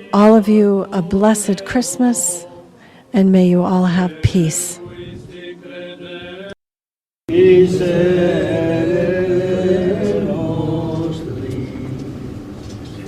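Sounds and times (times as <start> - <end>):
voices chanting together: 0.0 - 6.6, 7.3 - 12.4.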